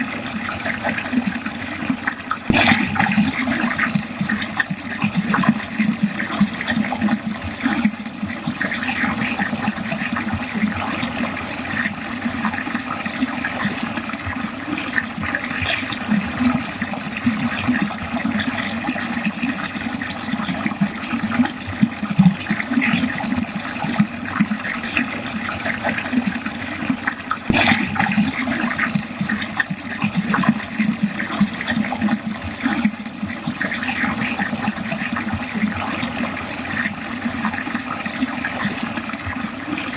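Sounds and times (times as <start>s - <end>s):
small splashes: 0.0s - 39.9s
water gurgling down a drain: 0.0s - 39.9s.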